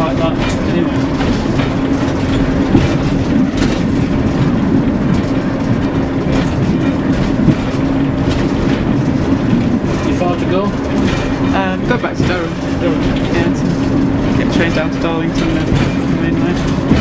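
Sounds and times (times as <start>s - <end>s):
diesel engine drone: 0.0s - 17.0s
wheel and rail noise: 0.0s - 17.0s.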